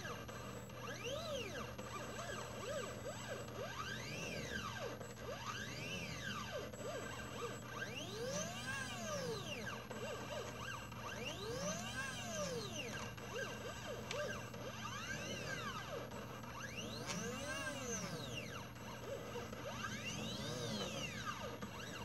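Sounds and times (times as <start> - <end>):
stepper motors whining: 0.0 - 22.0.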